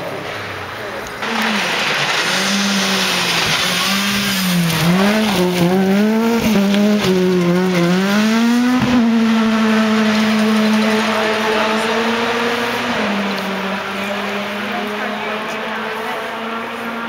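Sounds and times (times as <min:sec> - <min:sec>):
gravel spraying: 0:00.0 - 0:17.0
rally car engine revving: 0:00.0 - 0:17.0.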